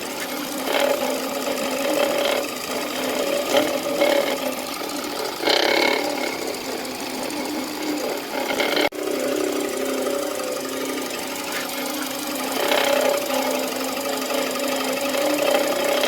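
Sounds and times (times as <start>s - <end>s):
alternator rattling grinding noise: 0.0s - 16.0s.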